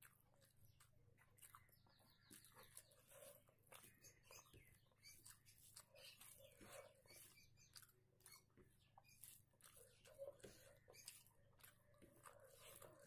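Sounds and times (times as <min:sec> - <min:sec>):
chewing and wet mouth noises: 0:00.0 - 0:13.0.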